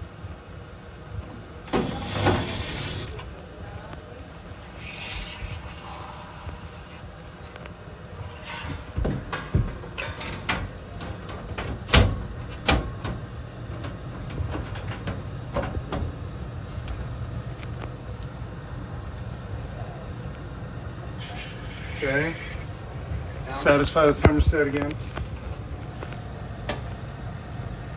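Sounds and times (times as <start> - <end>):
furnace humming: 0.0 - 4.8, 5.5 - 27.9.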